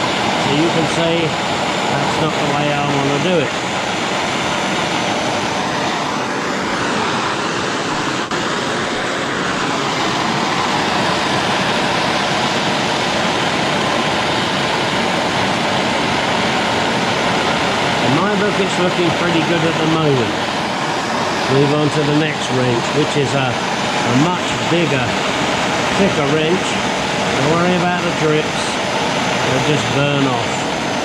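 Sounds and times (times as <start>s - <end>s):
heat tool rushing: 0.0s - 31.0s.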